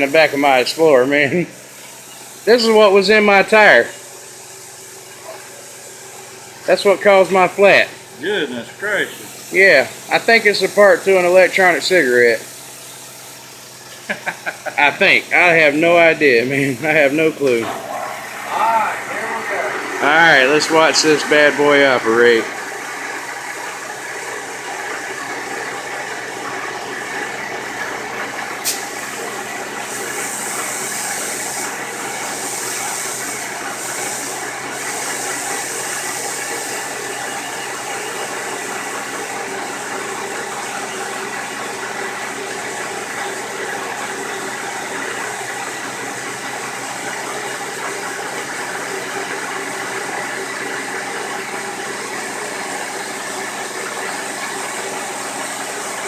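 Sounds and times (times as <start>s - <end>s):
milling machine drone: 0.0s - 4.0s, 4.6s - 56.0s
hiss of coolant mist: 0.0s - 56.0s.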